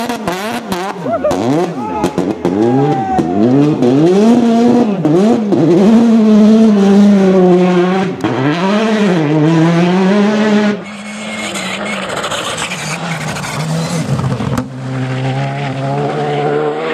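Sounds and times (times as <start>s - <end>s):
rally car engine revving hard: 0.0s - 16.9s.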